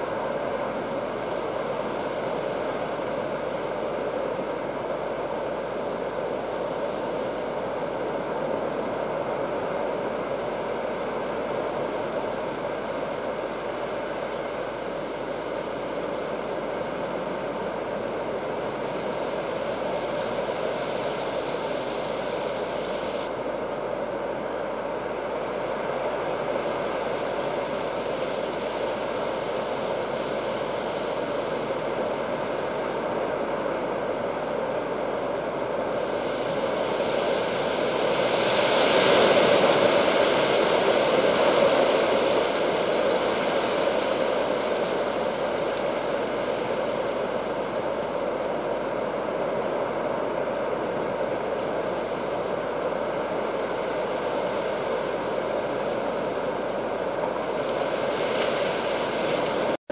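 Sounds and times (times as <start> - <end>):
rain: 0.0 - 59.8
wind: 0.0 - 59.9.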